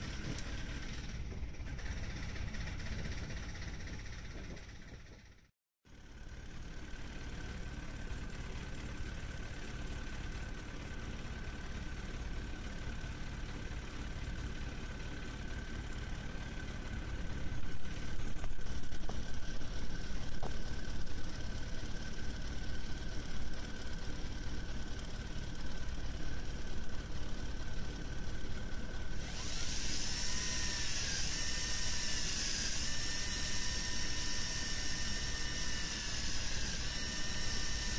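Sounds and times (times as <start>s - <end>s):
engine-like hum with high whine: 0.0s - 37.9s.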